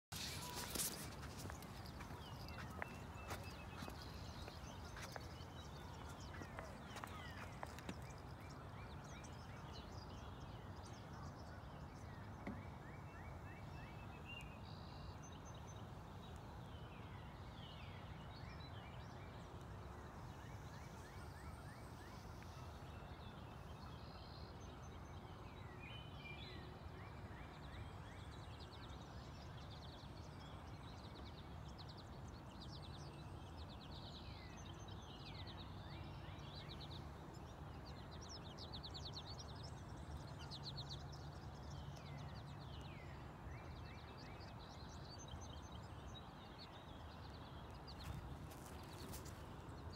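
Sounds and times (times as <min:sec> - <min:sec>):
faint low background noise: 0:00.1 - 0:49.9
songbirds chirping and trilling: 0:00.1 - 0:49.9.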